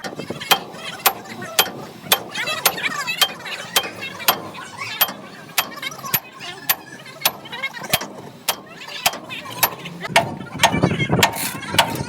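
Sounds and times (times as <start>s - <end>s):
hammer striking metal: 0.5s - 12.0s.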